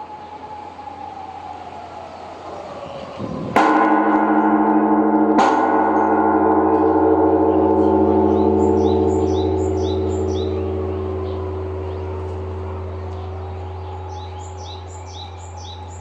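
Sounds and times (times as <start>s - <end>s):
large temple bell ringing: 2.4s - 16.0s.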